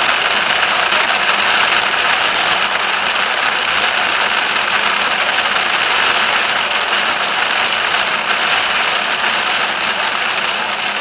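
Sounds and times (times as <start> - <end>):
heavy rain on driving car: 0.0 - 11.0.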